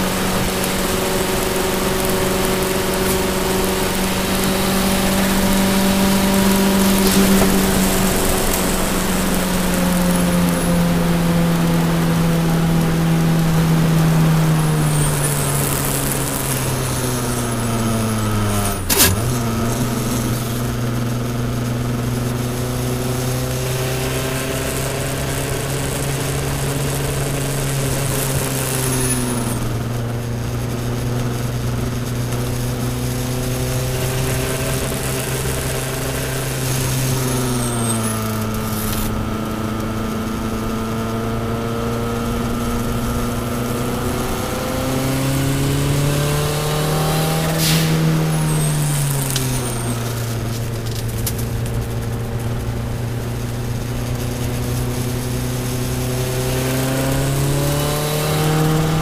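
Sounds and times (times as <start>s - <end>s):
car engine at speed: 0.0s - 59.0s
tyres hissing on wet track: 0.0s - 59.0s.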